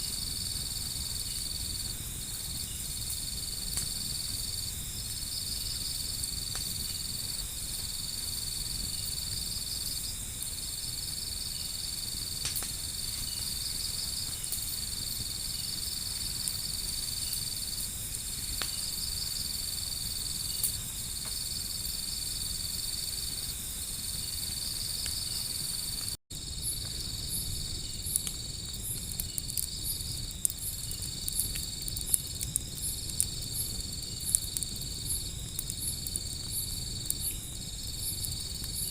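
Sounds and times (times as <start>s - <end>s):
insects chirping in trills: 0.0s - 38.9s
wood fire crackling: 0.0s - 38.9s.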